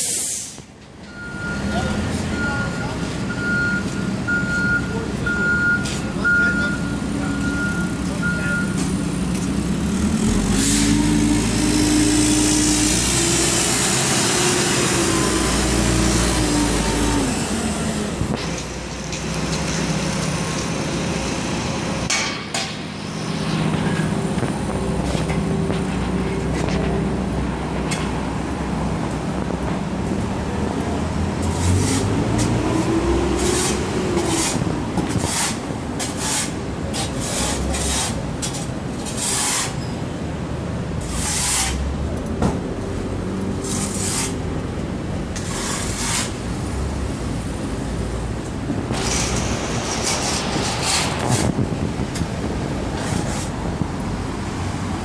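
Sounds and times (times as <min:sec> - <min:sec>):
machinery and truck engines droning: 0:00.0 - 0:55.0.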